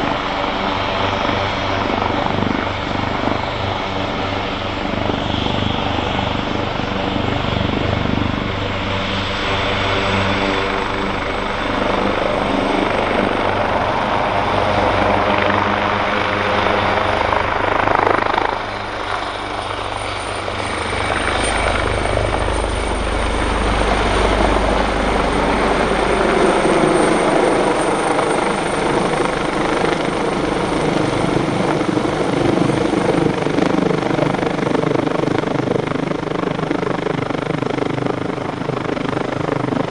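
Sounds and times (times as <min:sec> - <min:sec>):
helicopter rotor rumble: 0:00.0 - 0:39.9
helicopter turbine whine: 0:00.0 - 0:39.9.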